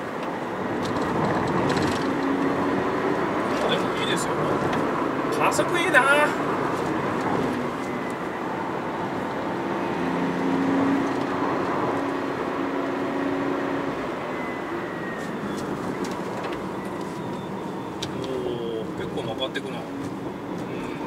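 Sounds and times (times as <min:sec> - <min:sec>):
tyre and road noise: 0:00.0 - 0:21.0.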